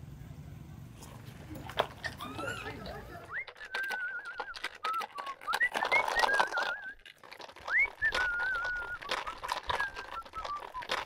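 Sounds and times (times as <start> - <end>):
clicks and rustling: 1.0 - 11.0.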